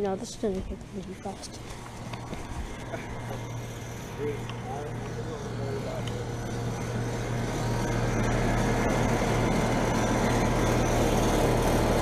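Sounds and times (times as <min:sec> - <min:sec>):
compressor hum: 0:00.0 - 0:12.0
condenser fan rushing: 0:00.0 - 0:12.0.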